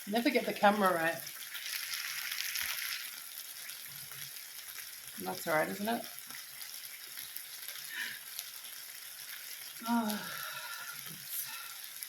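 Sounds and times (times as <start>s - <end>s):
kebabs sizzling on a grill: 0.0s - 12.0s.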